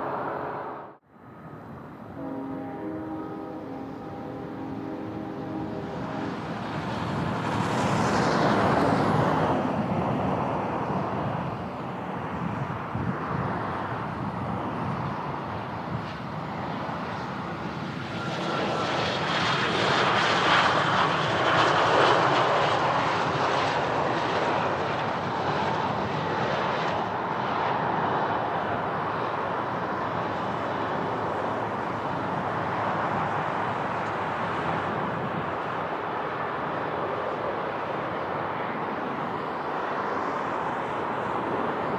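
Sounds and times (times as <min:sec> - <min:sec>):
aircraft engines whining: 0:00.0 - 0:41.9
wind rumble on microphone: 0:04.0 - 0:41.9.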